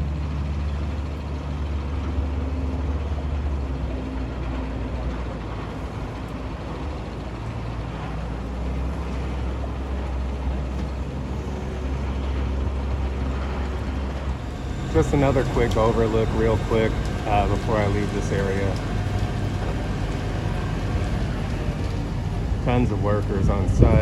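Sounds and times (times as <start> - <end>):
diesel engine low hum: 0.0 - 24.0.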